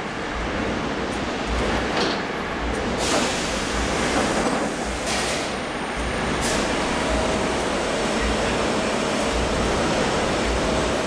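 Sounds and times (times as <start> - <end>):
press line machinery noise: 0.0 - 11.0.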